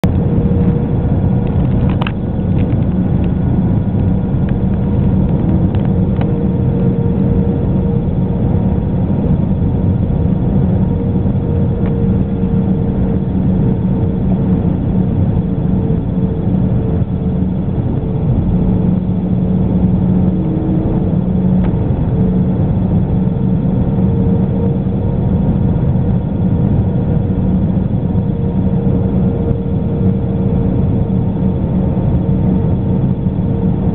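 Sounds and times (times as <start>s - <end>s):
constant hums: 0.0s - 33.9s
jet engine and airflow drone: 0.0s - 33.9s.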